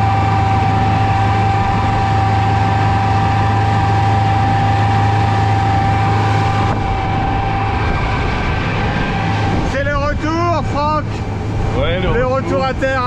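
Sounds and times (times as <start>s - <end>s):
boat engine low hum: 0.0s - 13.0s
high-pitched whine: 0.0s - 13.0s.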